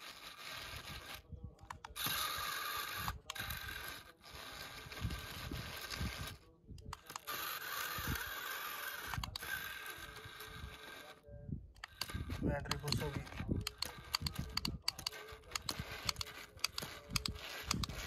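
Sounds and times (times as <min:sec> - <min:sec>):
small electric gear motor grinding: 0:00.0 - 0:18.0.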